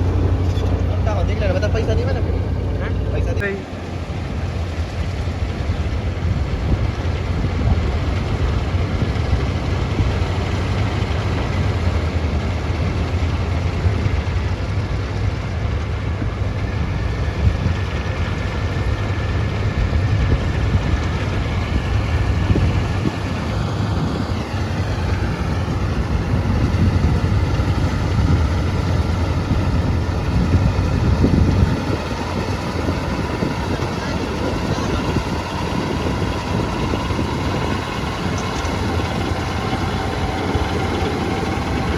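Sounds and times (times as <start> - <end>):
diesel engine deep hum: 0.0 - 41.9.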